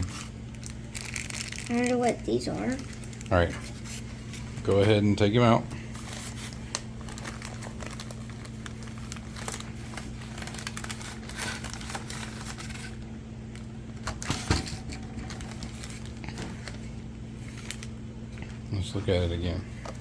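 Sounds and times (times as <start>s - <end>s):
packaging crinkling and rustling: 0.0s - 5.0s, 5.9s - 20.0s.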